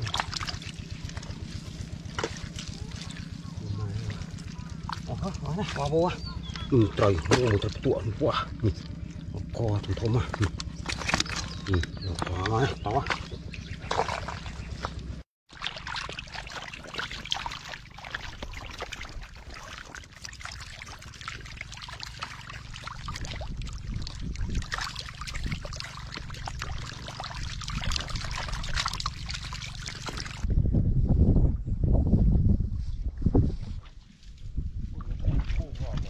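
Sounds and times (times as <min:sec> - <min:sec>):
fish splashing in muddy water: 0:00.0 - 0:30.5.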